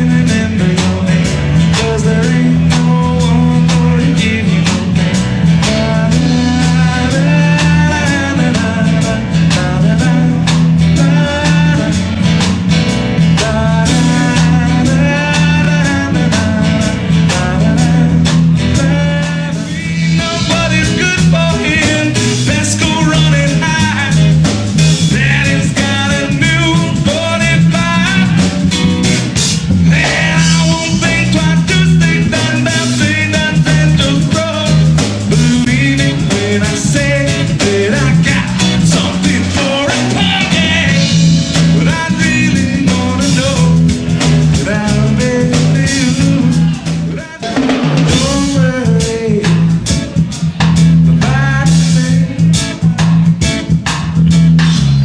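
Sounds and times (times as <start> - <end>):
man singing: 0.0 - 50.4, 51.0 - 54.0
drum kit: 0.0 - 55.0.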